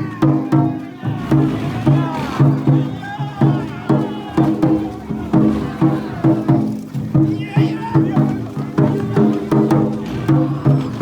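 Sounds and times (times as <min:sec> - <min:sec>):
steady drumbeat: 0:00.0 - 0:11.0
voices chanting: 0:00.0 - 0:11.0.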